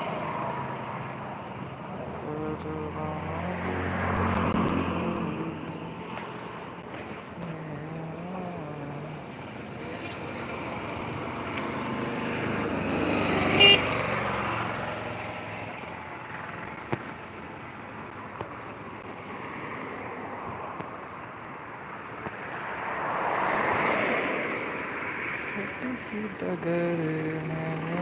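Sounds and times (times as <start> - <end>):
vehicle passing: 0.0 - 28.0.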